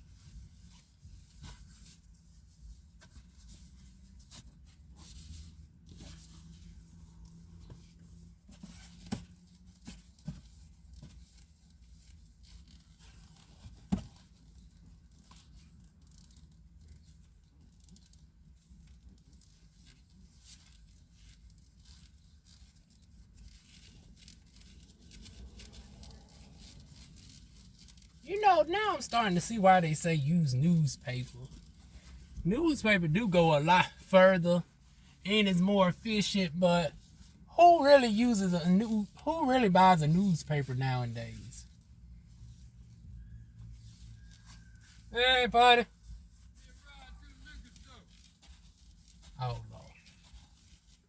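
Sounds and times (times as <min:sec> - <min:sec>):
paper towel wiping glass: 0:00.0 - 0:51.0.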